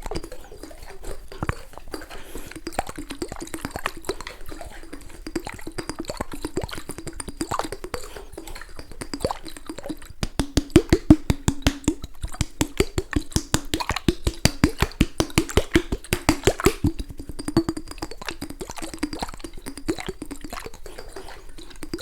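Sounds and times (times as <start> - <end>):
sharp hollow clicks: 0.0 - 22.0.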